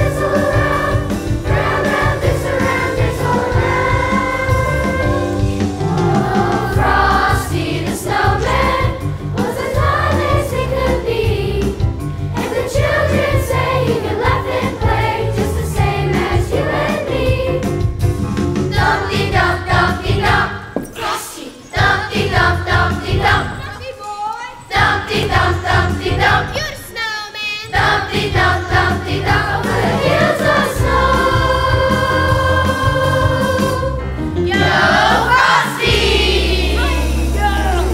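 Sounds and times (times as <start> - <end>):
chorus singing: 0.0 - 18.0, 18.7 - 23.8, 24.6 - 26.6, 27.6 - 37.9
instrumental accompaniment: 0.0 - 24.0, 27.7 - 37.9.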